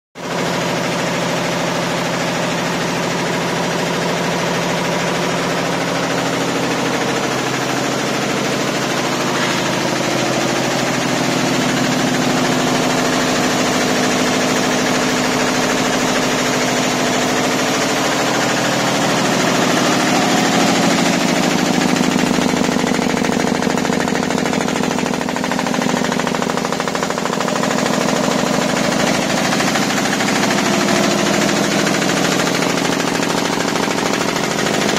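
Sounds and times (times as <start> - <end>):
embroidery machine stitching: 0.5 - 34.9.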